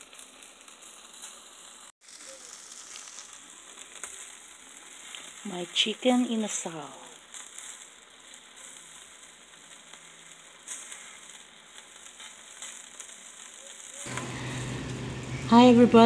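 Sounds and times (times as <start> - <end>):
chicken sizzling on charcoal grill: 0.0 - 16.0.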